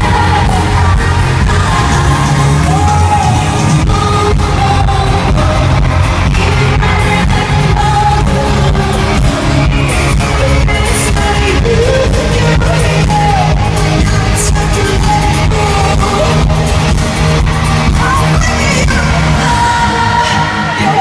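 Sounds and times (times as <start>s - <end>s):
heavy bass: 0.0s - 21.0s
live pop band playing: 0.0s - 21.0s
person singing: 0.0s - 21.0s.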